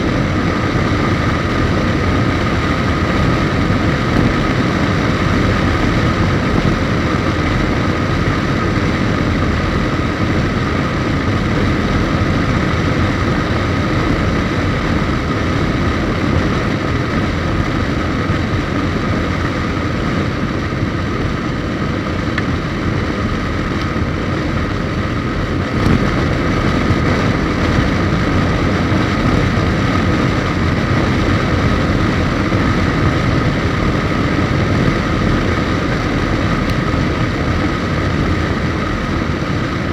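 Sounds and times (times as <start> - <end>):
faint steady whine: 0.0 - 39.9
motorcycle engine cruising: 0.0 - 39.9
wind and road noise: 0.0 - 39.9.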